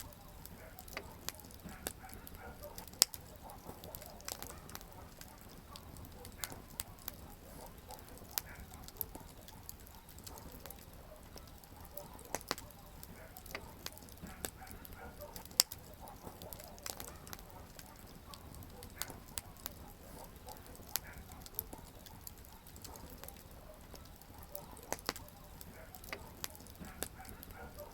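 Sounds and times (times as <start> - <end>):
campfire crackling and popping: 0.0 - 27.9.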